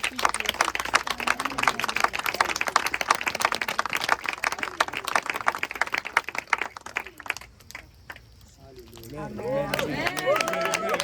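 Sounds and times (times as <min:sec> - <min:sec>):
group clapping hands: 0:00.0 - 0:11.0.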